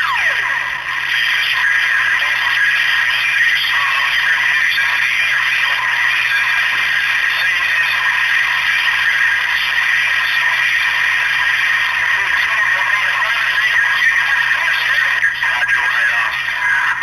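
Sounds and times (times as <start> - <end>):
garbled radio voices: 0.0 - 17.0
radio static hiss: 0.0 - 17.0.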